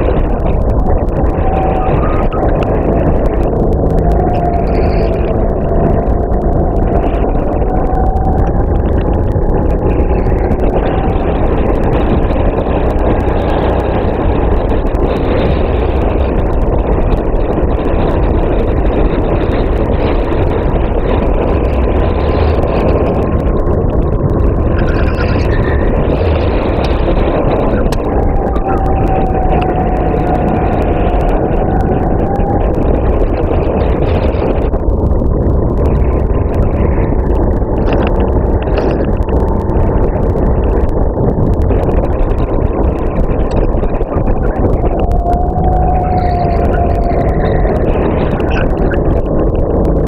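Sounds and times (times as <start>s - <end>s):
heavy low rumble: 0.0s - 50.0s
racing kart engine running hard: 0.0s - 50.0s.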